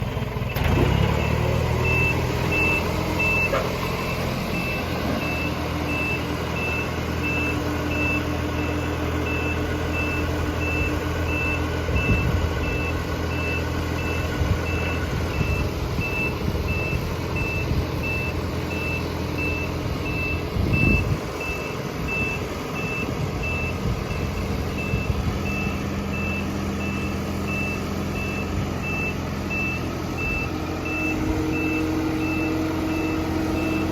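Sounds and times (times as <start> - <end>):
truck engine running: 0.0 - 33.9
short high warning beeps: 0.6 - 33.9.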